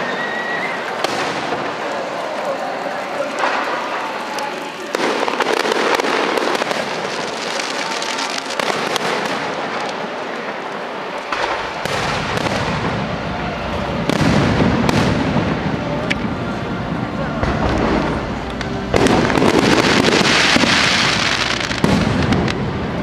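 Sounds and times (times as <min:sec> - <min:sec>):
deep fireworks booms: 0:00.0 - 0:23.0
fireworks bangs: 0:00.0 - 0:23.0
fireworks crackling: 0:00.0 - 0:23.0.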